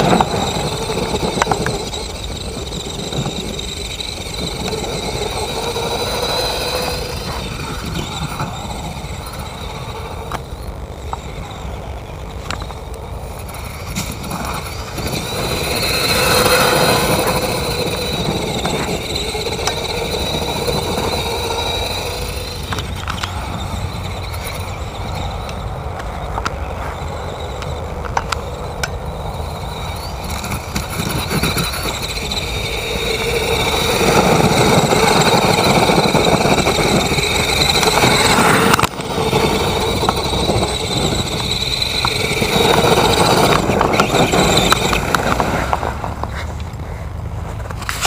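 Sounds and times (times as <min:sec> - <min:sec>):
truck engine rumble and whine: 0:00.0 - 0:48.0.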